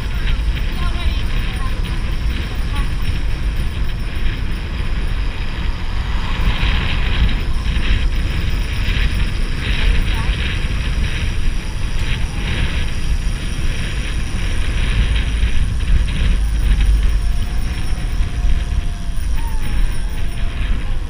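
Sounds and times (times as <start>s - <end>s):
bicycle road noise: 0.0s - 21.0s
wind buffeting microphone: 0.0s - 21.0s.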